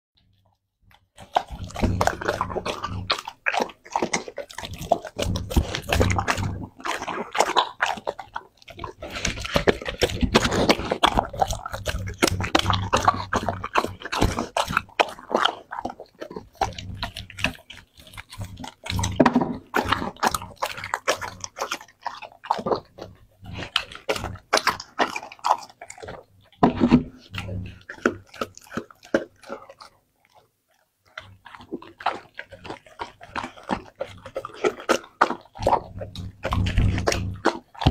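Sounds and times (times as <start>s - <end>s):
dog chewing meat: 0.2s - 37.9s.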